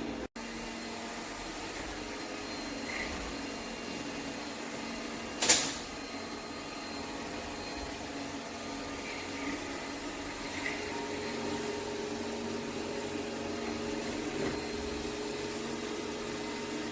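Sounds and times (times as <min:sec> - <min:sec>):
robot vacuum humming: 0:00.0 - 0:16.9.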